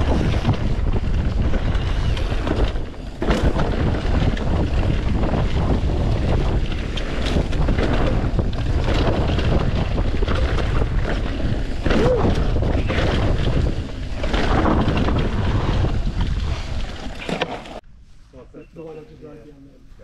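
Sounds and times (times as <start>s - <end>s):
wind buffeting microphone: 0.0s - 17.3s
bike rattling: 0.0s - 17.8s
tyres rumbling on dirt: 0.0s - 17.8s.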